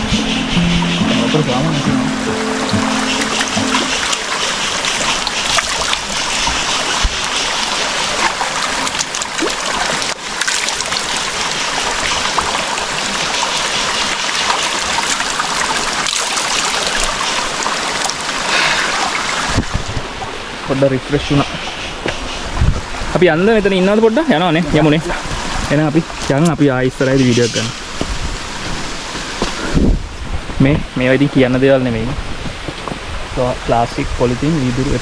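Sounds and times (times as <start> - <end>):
stream water rushing: 0.0 - 33.8.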